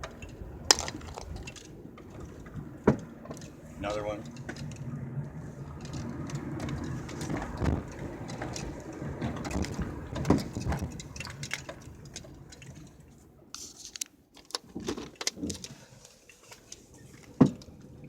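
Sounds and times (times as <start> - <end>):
pops and clicks from car front end: 0.0 - 3.6, 4.2 - 5.0, 5.7 - 17.7
road noise: 0.0 - 18.0.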